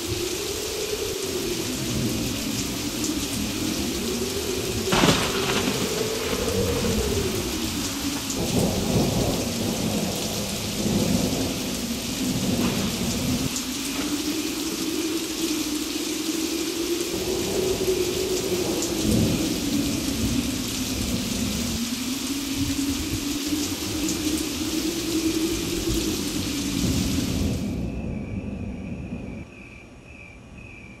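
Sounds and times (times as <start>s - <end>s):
steady rain falling: 0.0s - 29.5s
thunder rumbling: 0.0s - 29.5s.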